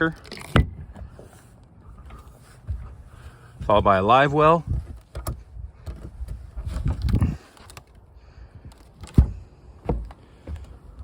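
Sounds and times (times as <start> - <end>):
low rumbling shuffle: 0.7 - 11.0.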